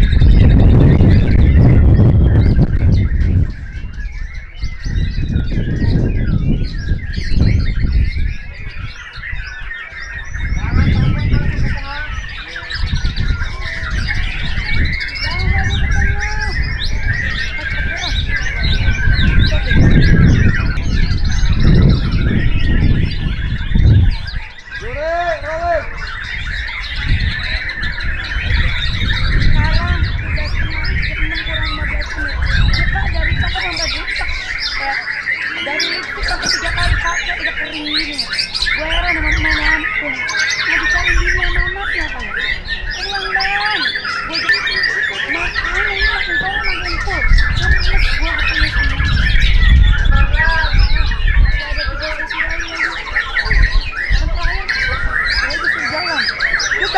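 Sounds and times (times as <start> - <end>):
songbird singing whistles and chirps: 0.0 - 25.0, 25.8 - 56.9
other songbirds singing: 0.0 - 56.9.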